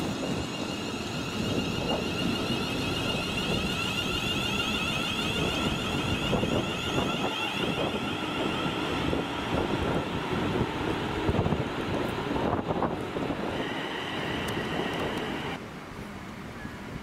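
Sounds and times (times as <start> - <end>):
electric train whine: 0.0 - 15.6
train wheels rumbling: 0.0 - 15.6
wind buffeting microphone: 0.0 - 15.6.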